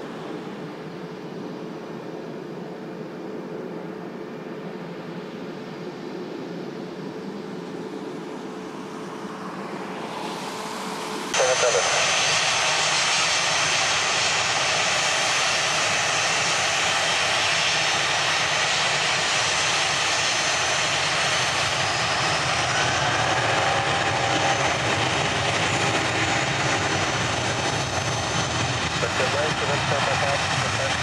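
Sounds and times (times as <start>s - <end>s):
jet engines at takeoff: 0.0s - 31.0s.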